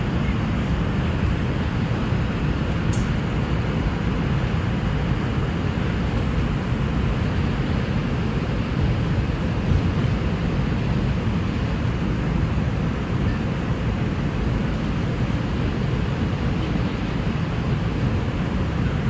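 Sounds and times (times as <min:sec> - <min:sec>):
subway train rumble on board: 0:00.0 - 0:19.0.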